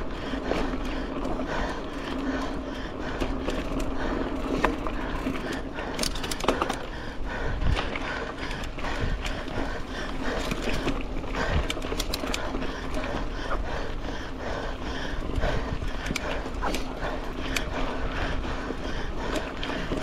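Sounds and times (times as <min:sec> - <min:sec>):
bike clicks and rattles: 0:00.0 - 0:20.0
bike tyre noise on dirt: 0:00.0 - 0:20.0.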